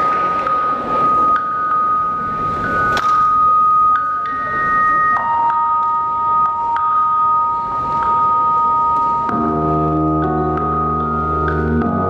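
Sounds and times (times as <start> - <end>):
held high keyboard notes: 0.0 - 12.0.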